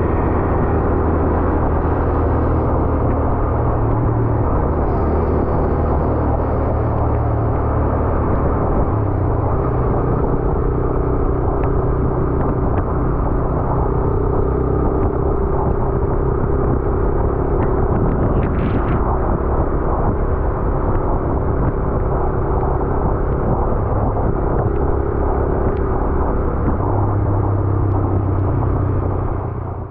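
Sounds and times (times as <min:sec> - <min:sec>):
vehicle engine running: 0:00.0 - 0:29.9
wind and road noise: 0:00.0 - 0:29.9.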